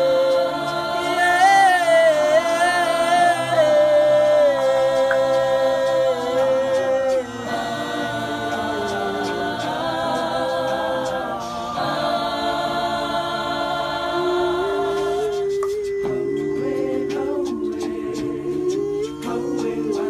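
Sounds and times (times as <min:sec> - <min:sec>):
group singing in harmony: 0:00.0 - 0:20.0.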